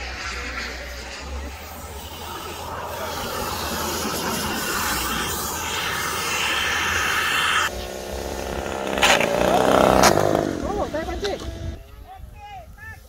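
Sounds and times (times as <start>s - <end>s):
model airplane engine running: 0.0s - 11.8s.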